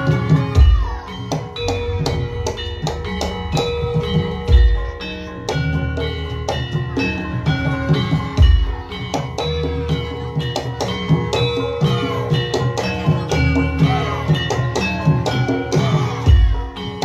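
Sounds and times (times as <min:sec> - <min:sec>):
gamelan metallophones ringing: 0:00.0 - 0:17.0
hand drum beats: 0:00.0 - 0:17.0.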